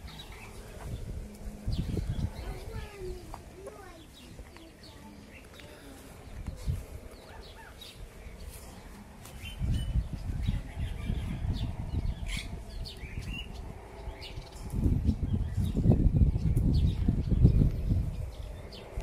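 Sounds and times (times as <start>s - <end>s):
low rumble on microphone: 0.0s - 19.0s
small birds chirping: 0.0s - 19.0s.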